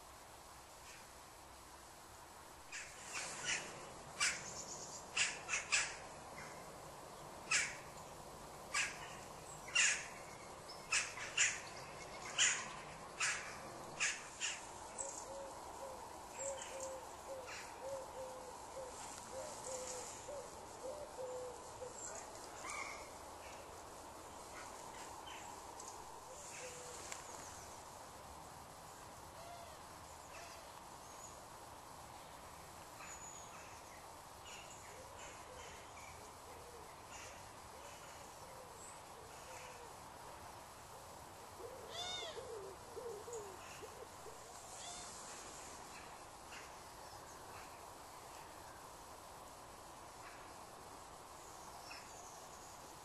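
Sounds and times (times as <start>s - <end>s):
outdoor hush: 0.0s - 53.0s.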